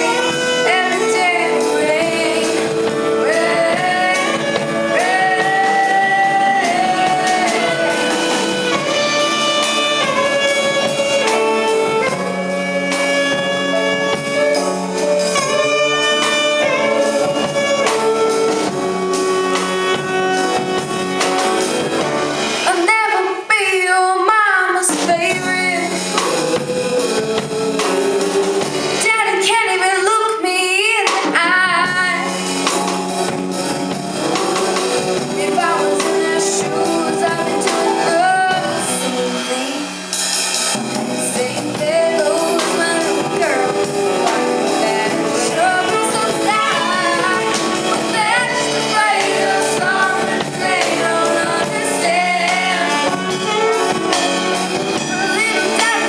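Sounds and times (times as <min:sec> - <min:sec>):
saxophone melody: 0:00.0 - 0:24.0, 0:24.8 - 0:30.8, 0:31.5 - 0:56.0
person singing: 0:00.0 - 0:32.7, 0:34.2 - 0:40.2, 0:40.9 - 0:56.0
bass and drums: 0:00.0 - 0:56.0
piano: 0:00.0 - 0:56.0.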